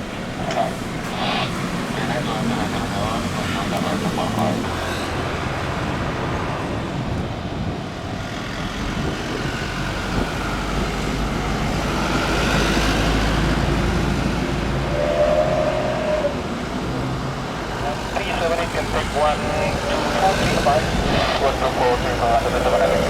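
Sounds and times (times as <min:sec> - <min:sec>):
jet airliner engines passing: 0:00.0 - 0:23.0.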